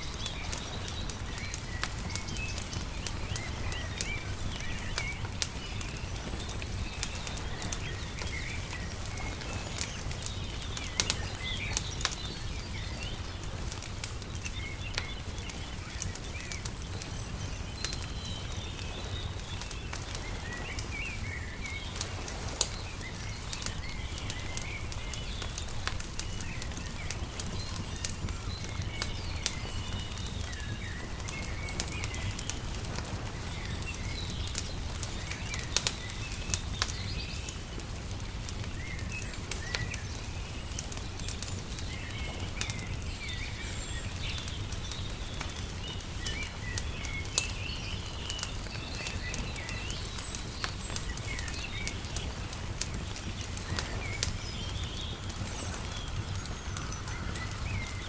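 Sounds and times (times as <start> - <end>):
small birds chirping: 0.0 - 58.0
wood fire crackling and popping: 0.0 - 58.0.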